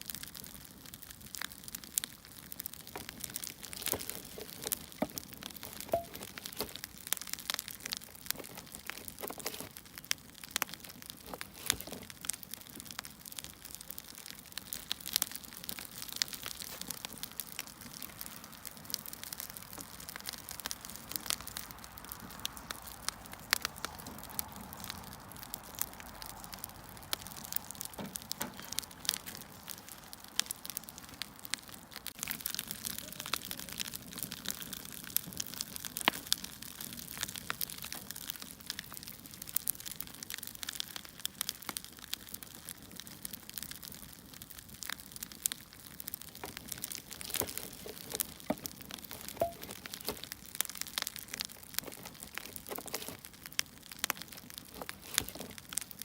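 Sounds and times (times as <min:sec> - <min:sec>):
soft steady hiss: 0:00.0 - 0:56.0
wood fire crackling: 0:00.0 - 0:56.0.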